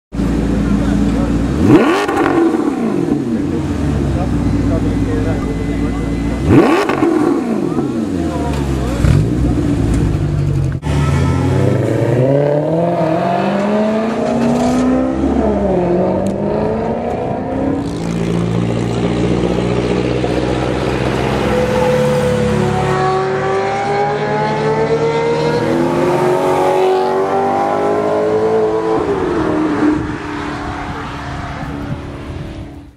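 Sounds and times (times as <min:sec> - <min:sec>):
car engine accelerating hard: 0:00.2 - 0:32.9.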